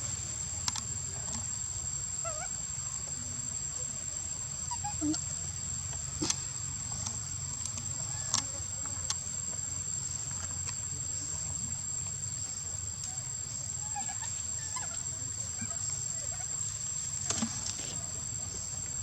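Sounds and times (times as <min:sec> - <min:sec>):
insects droning whine: 0:00.0 - 0:19.0.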